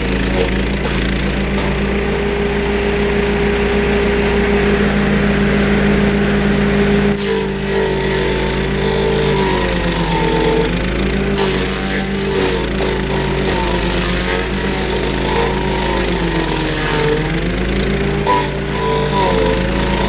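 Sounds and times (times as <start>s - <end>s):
stump grinder engine running: 0.0s - 20.0s.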